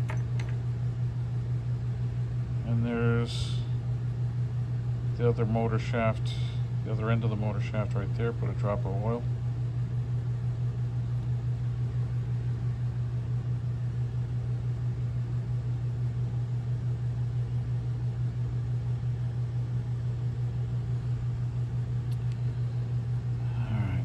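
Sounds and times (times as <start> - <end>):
fan humming: 0.0 - 24.0.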